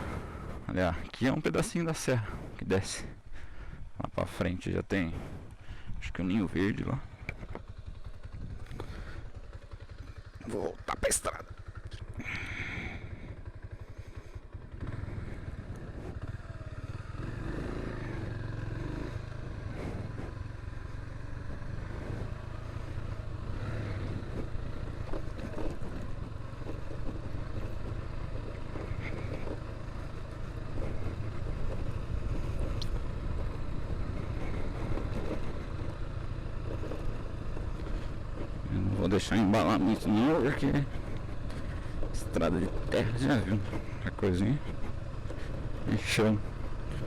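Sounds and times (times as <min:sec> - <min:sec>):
motorcycle engine rumbling: 0:00.0 - 0:47.0.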